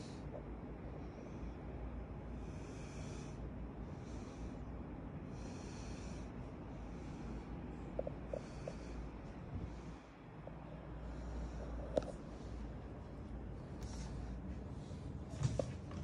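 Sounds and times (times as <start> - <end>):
person breathing: 0.0 - 15.4.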